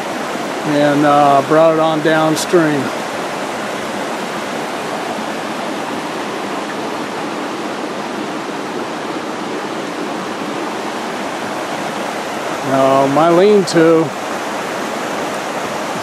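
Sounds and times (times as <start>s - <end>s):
creek rushing: 0.0s - 16.0s.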